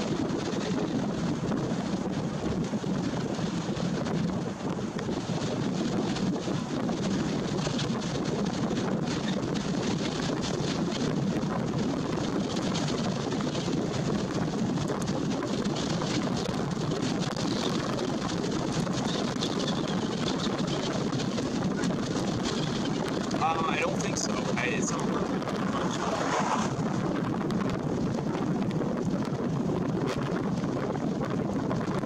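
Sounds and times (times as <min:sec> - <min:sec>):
strong wind on microphone: 0:00.0 - 0:32.0.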